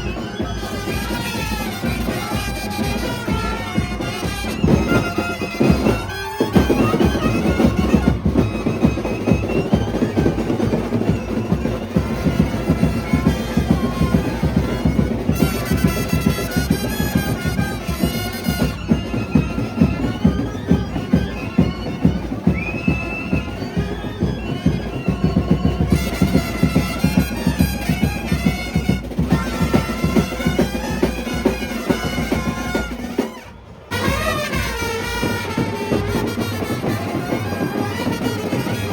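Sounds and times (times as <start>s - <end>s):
brass band reedy melody: 0.0s - 22.6s, 23.3s - 38.9s.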